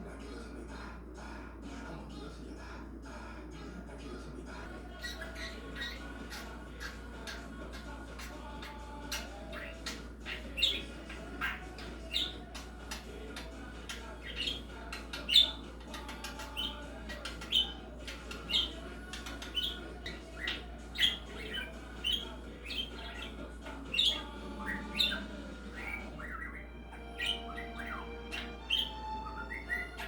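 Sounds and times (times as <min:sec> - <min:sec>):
budgerigar chirping: 0:04.8 - 0:30.0
budgerigar whistling tones: 0:04.8 - 0:30.0.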